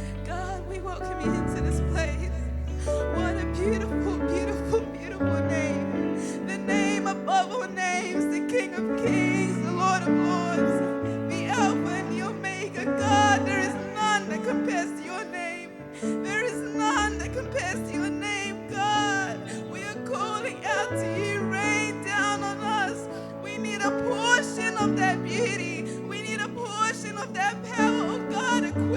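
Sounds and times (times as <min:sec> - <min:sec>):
sustained keyboard chords: 0:00.0 - 0:28.9
voices singing: 0:00.0 - 0:28.9.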